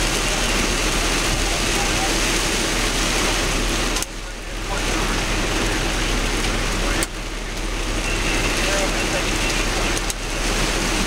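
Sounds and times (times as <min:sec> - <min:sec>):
rain and hail on vehicle: 0:00.0 - 0:11.0
vehicle engine running: 0:00.0 - 0:11.0.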